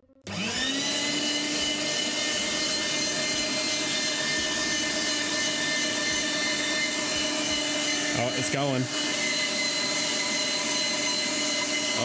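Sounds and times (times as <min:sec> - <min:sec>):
meat grinder motor whine: 0:00.0 - 0:12.0.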